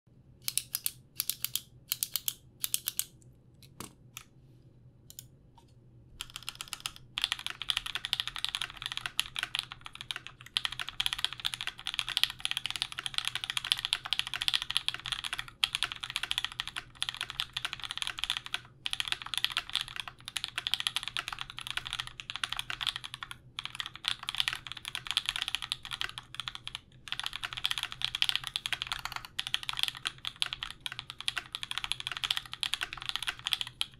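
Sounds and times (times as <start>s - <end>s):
mechanical keyboard typing: 0.4s - 3.1s, 6.2s - 33.9s.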